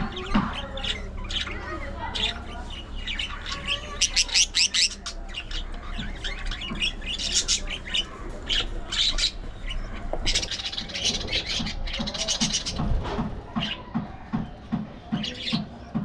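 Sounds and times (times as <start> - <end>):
budgerigars chattering and squawking: 0.0 - 16.0.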